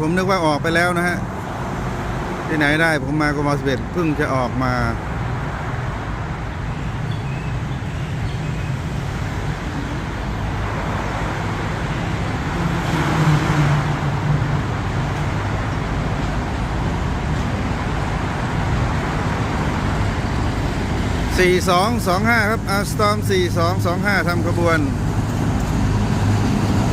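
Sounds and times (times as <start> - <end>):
train rumbling on track: 0.0 - 26.9.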